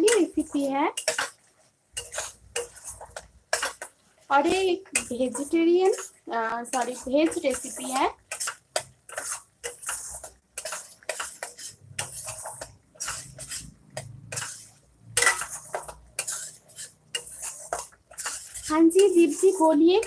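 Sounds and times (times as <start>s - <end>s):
spatula scraping steel pan: 0.0s - 20.0s.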